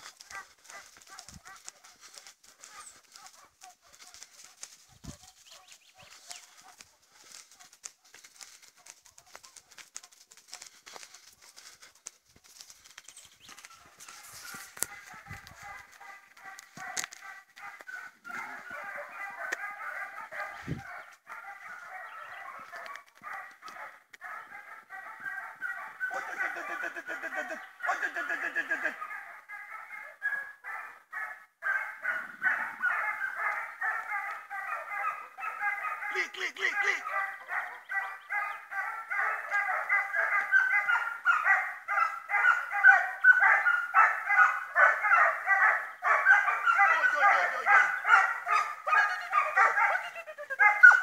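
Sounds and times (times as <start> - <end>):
hounds baying: 0.0 - 51.0.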